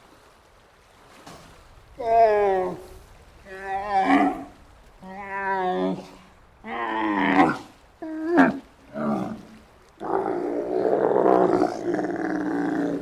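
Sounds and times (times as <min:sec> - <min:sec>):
giraffe rough growling call: 0:02.0 - 0:13.0.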